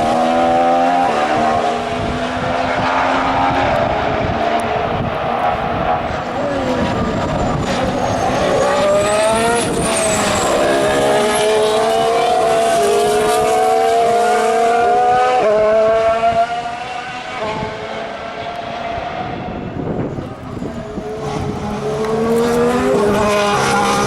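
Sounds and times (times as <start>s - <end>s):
racing car engine accelerating: 0.0s - 24.0s.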